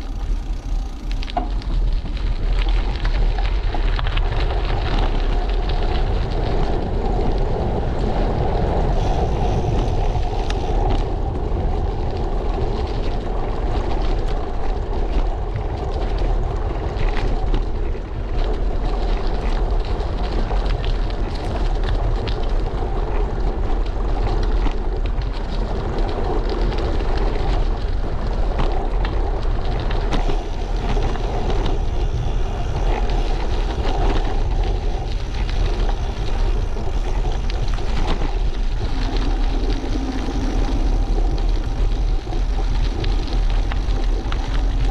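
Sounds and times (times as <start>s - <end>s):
bicycle tyres rolling on road: 0.0s - 44.9s
wind rumble on microphone: 0.0s - 44.9s.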